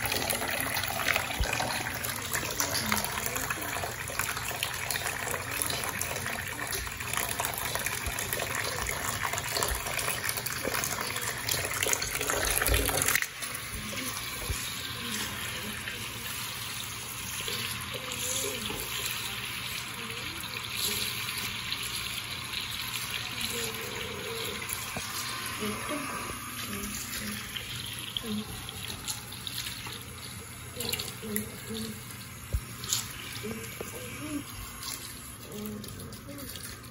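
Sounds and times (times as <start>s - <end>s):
tap water pouring into tub: 0.0s - 36.9s.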